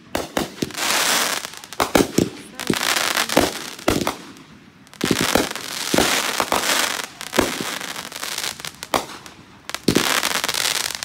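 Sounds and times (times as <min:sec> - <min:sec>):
firework shells booming: 0:00.0 - 0:10.6
firework crackling: 0:00.0 - 0:11.0.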